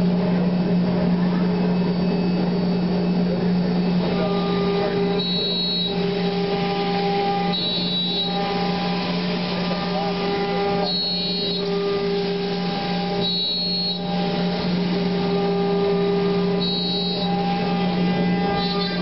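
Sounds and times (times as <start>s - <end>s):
cnc router machine hum: 0.0s - 19.0s
high machine whine: 0.0s - 19.0s.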